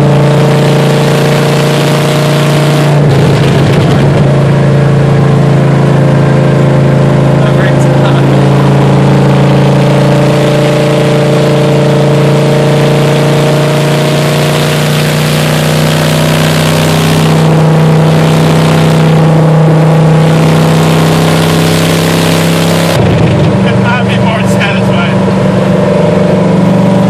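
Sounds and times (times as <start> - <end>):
loud car engine cruising: 0.0 - 27.0.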